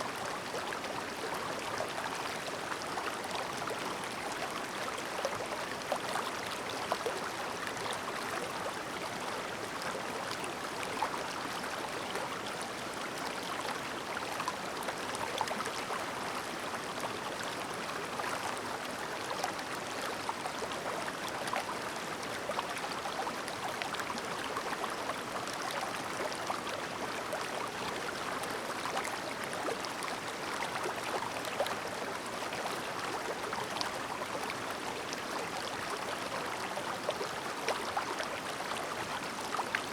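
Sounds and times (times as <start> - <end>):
stream babbling over stones: 0.1 - 39.9.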